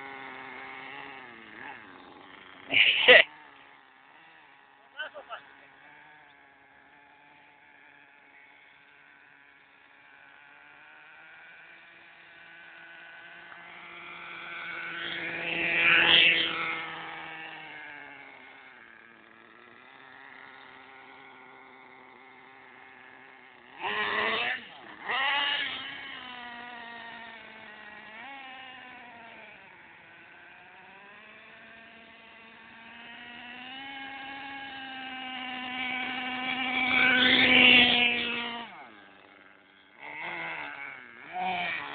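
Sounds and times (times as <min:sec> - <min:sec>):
electric toy truck motor whining: 0:00.0 - 0:41.9.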